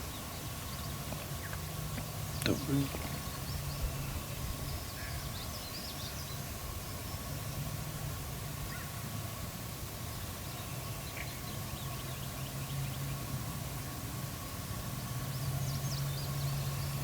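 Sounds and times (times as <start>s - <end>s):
songbirds chirping: 0.0s - 9.0s, 9.7s - 14.0s, 14.6s - 17.0s
steady low hum: 0.0s - 17.0s.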